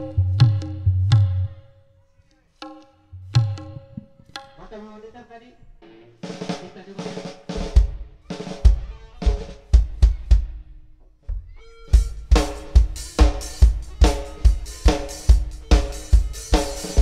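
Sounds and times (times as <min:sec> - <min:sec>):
drum kit through loudspeakers: 0:00.0 - 0:01.7, 0:02.6 - 0:17.0.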